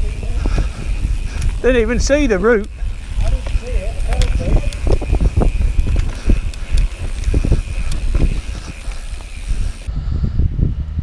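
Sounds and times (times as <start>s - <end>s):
bike rattling and knocking: 0.0s - 9.9s
tyres rumbling over dirt: 0.0s - 9.9s
wind buffeting microphone: 0.0s - 11.0s.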